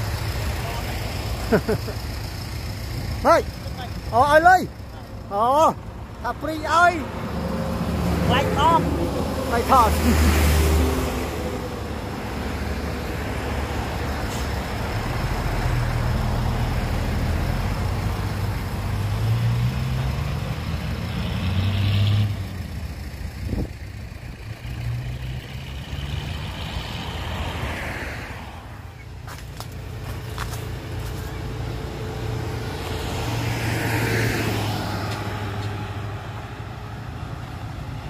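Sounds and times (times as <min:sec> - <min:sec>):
diesel truck engine accelerating: 0:00.0 - 0:38.0.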